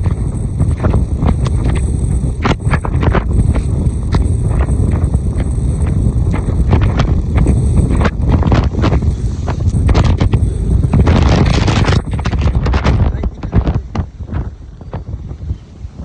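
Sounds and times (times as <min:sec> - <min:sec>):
rough sea: 0:00.0 - 0:16.0
wind buffeting microphone: 0:00.0 - 0:16.0.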